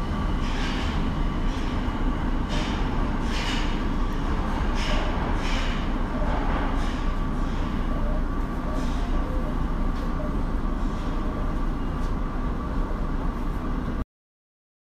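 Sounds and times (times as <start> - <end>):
subway train low rumble: 0.0 - 14.0.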